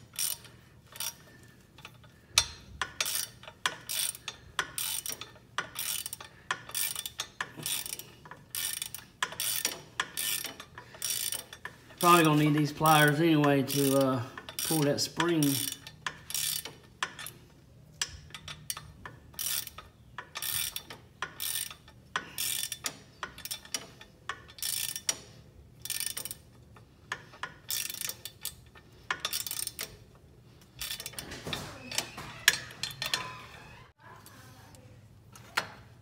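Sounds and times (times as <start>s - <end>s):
hand ratchet clicking: 0.0s - 33.8s.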